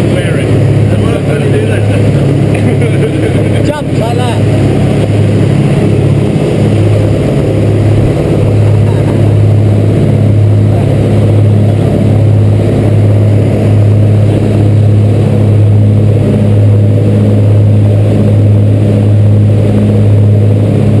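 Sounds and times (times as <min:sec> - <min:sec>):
boat engine drone: 0:00.0 - 0:21.0
water rushing along hull: 0:00.0 - 0:21.0.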